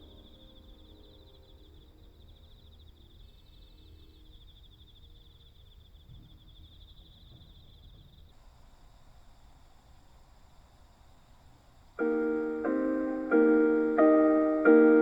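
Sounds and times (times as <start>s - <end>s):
insects trilling: 0.0s - 14.8s.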